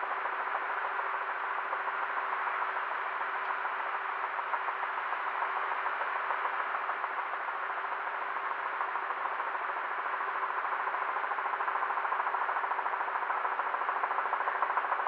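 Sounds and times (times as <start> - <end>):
helicopter engine and rotor: 0.1 - 15.0.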